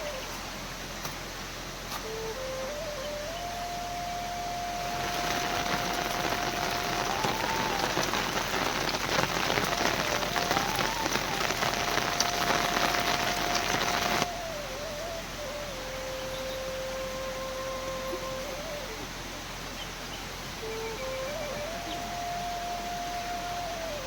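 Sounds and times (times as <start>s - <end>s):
heavy rain falling: 0.0s - 24.0s
soft melody of long notes: 0.0s - 24.0s.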